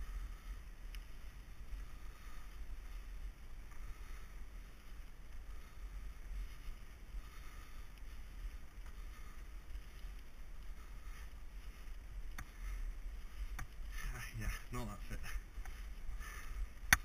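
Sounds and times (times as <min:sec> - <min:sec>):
bike rolling on gravel: 0:00.1 - 0:16.9.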